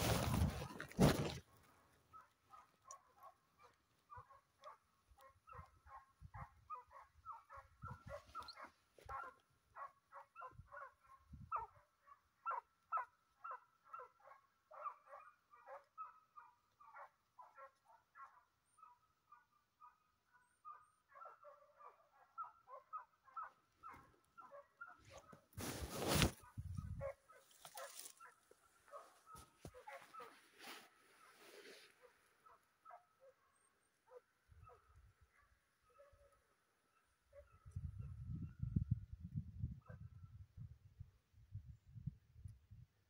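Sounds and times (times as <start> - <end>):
distant hounds baying: 2.0 - 25.5, 26.3 - 38.6.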